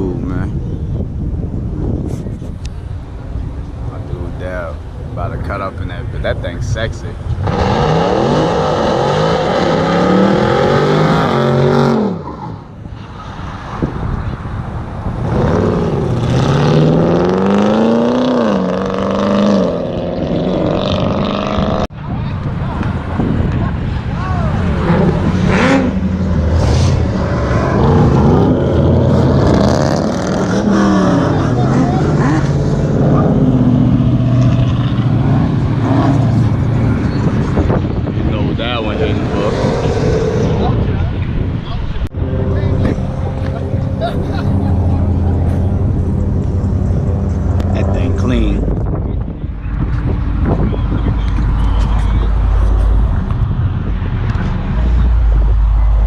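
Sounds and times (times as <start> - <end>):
car engine accelerating hard: 7.2 - 56.0.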